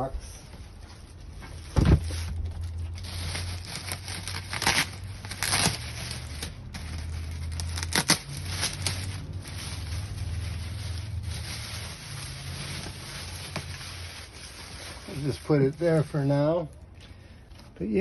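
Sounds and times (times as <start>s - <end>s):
packaging crinkling and rustling: 0.4s - 17.8s
packaging tearing: 2.0s - 16.7s.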